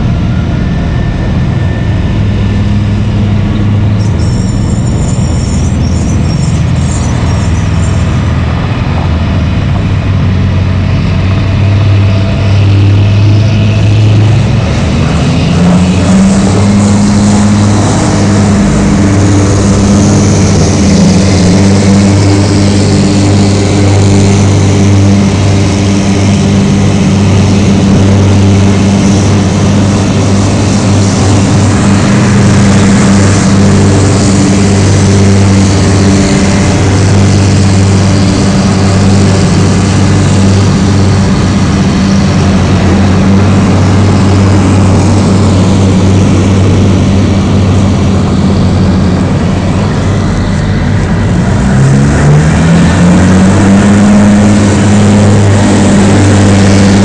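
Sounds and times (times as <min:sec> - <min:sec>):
diesel truck engines droning: 0:00.0 - 0:57.0.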